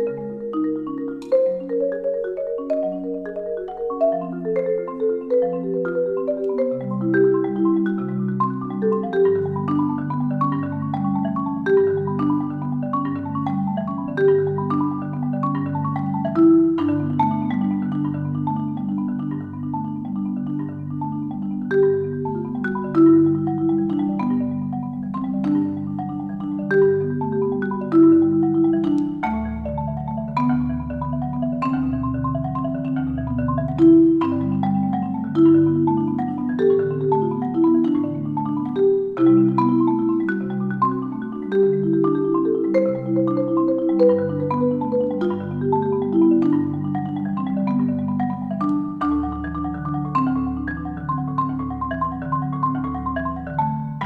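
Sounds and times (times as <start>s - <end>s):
deep bass marimba notes: 0.0s - 54.0s
marimba played with mallets: 0.0s - 54.0s.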